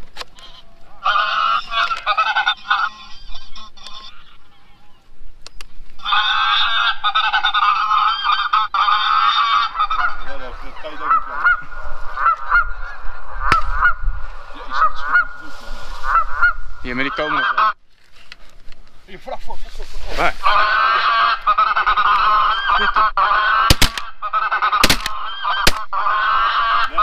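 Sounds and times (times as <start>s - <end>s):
geese honking: 0.3s - 5.1s, 6.0s - 17.8s, 20.1s - 27.0s.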